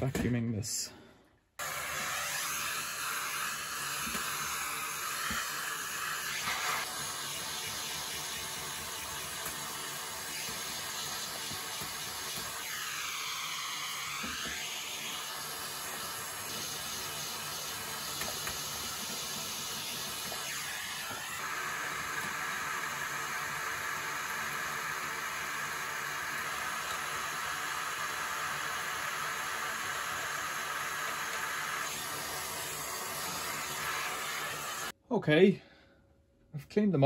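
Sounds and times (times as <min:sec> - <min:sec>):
vacuum cleaner running: 0:01.6 - 0:35.0.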